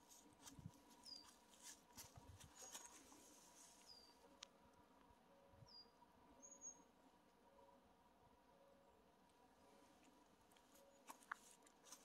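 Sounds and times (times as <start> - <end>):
songbird chirps: 0.1 - 1.8, 2.5 - 7.9, 8.5 - 12.0.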